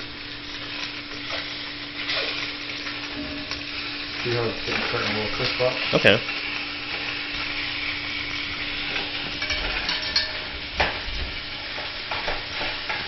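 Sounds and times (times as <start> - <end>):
meat sizzling in butter: 0.0 - 13.0.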